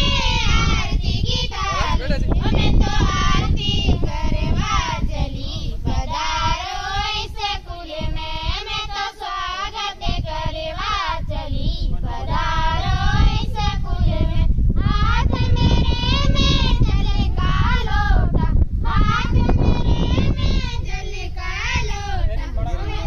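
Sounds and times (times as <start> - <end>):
girls singing together: 0.0 - 23.0
steady low rumble: 0.0 - 23.0.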